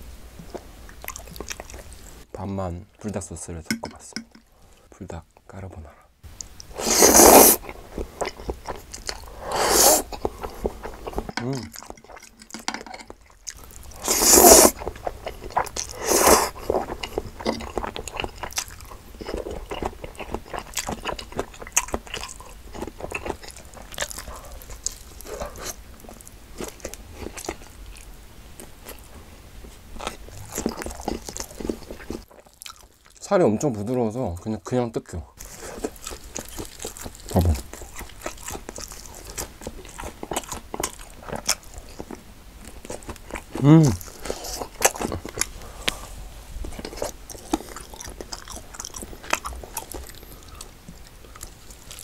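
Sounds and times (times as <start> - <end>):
chewing with wet mouth clicks: 0.4 - 2.1, 7.6 - 9.3, 9.9 - 29.1, 30.0 - 33.2, 35.4 - 46.0, 46.6 - 52.0
noisy eating: 0.4 - 2.4, 6.3 - 34.2, 35.4 - 52.0.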